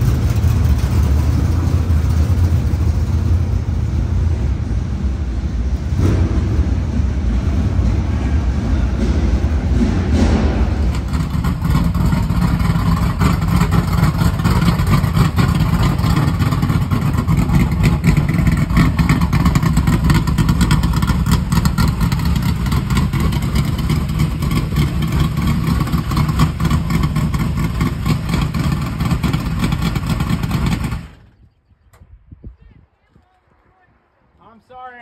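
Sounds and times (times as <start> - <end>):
race car engine running loud: 0.0 - 31.4.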